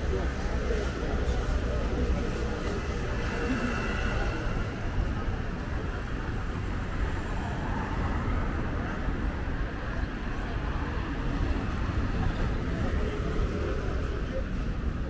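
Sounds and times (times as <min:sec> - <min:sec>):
cars on city street: 0:00.0 - 0:15.0.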